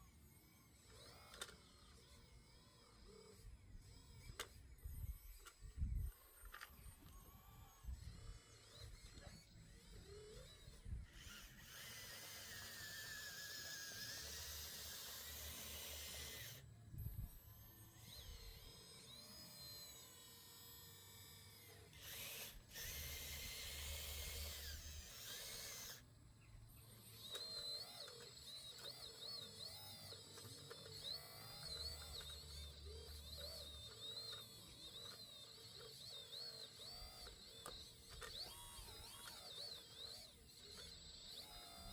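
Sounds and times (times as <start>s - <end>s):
small electric motors whining: 0.0s - 41.9s.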